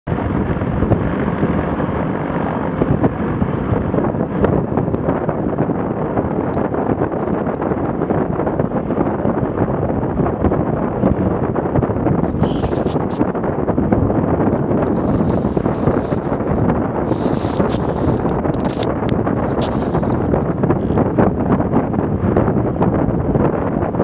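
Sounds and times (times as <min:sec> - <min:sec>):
wind buffeting microphone: 0:00.0 - 0:24.0
light aircraft engine and propeller: 0:00.1 - 0:24.0.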